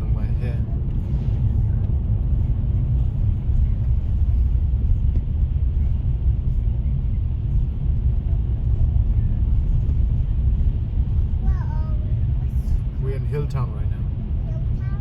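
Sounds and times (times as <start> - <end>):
car cabin engine and road noise: 0.0 - 15.0.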